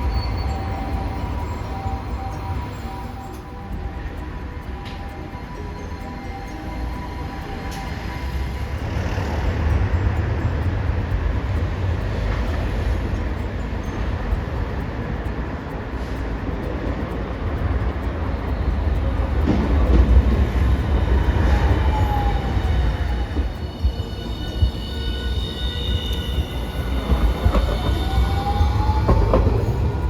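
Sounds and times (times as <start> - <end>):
falling whine: 0.0 - 30.0
streetcar wheels rumbling on rail: 0.0 - 30.0.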